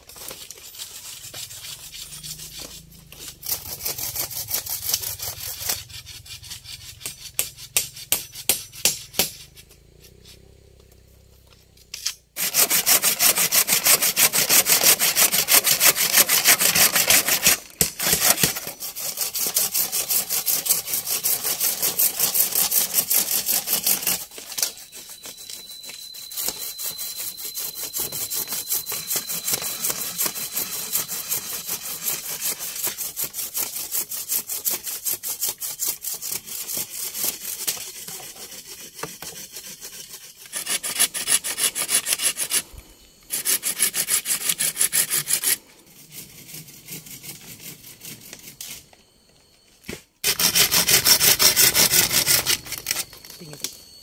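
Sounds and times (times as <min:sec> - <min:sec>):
saw cutting wood: 0:00.1 - 0:10.6, 0:12.4 - 0:48.8, 0:50.2 - 0:53.6.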